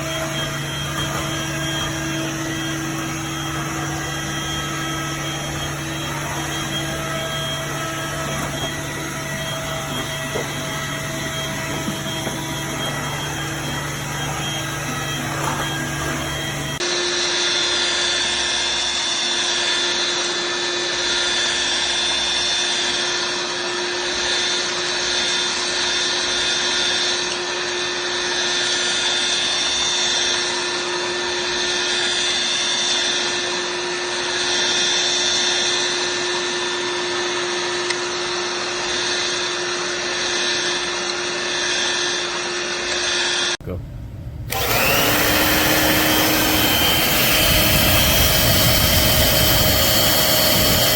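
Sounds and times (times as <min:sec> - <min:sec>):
vacuum cleaner motor whine: 0:00.0 - 0:43.7, 0:44.4 - 0:50.9.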